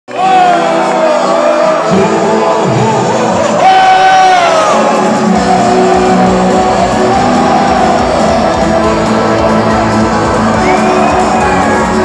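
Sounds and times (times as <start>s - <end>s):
crowd shouting: 0.1s - 12.0s
rock band playing live: 1.7s - 12.0s.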